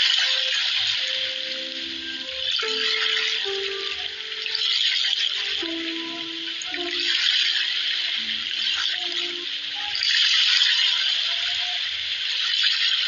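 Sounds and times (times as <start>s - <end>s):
soft held music notes: 0.0s - 12.5s.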